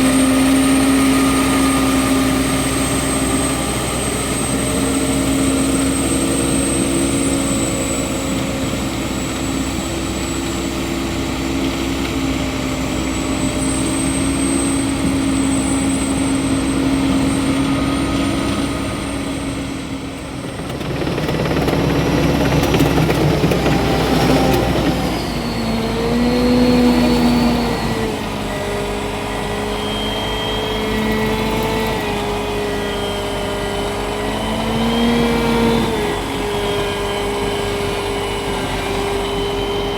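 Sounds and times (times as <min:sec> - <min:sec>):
diesel engine under load: 0:00.0 - 0:39.9
hydraulic pump whine: 0:00.0 - 0:39.9.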